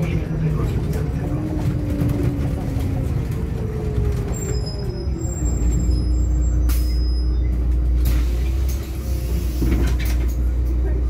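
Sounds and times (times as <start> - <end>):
bus drivetrain whine and hum: 0.0 - 11.0.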